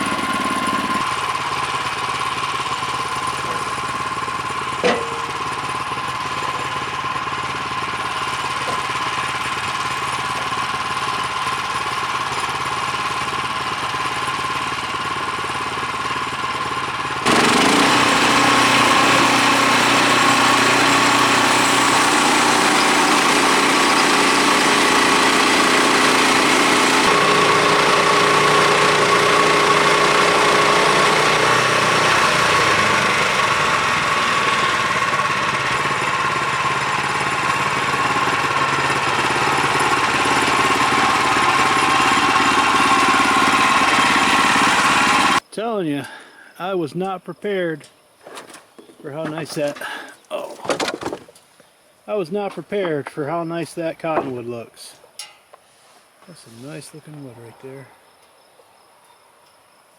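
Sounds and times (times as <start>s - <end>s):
sawmill gas engine running: 0.0s - 46.6s, 48.3s - 51.2s.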